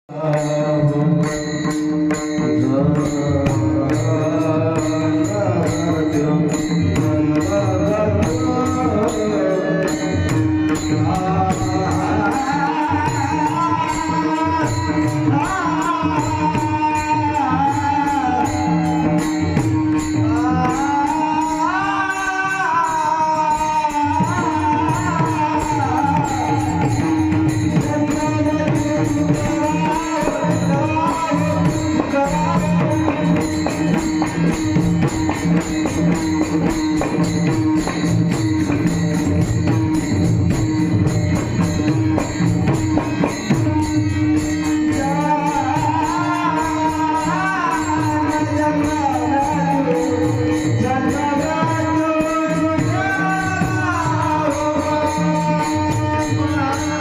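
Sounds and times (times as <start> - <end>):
rhythmic percussion: 0.0 - 57.0
devotional singing: 0.1 - 37.6, 43.2 - 57.0.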